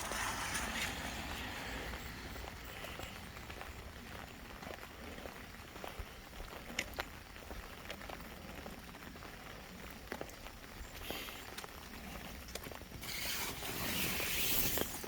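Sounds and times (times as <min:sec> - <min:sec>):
raindrops ticking close by: 0:00.0 - 0:13.3
light rain falling: 0:00.0 - 0:15.0.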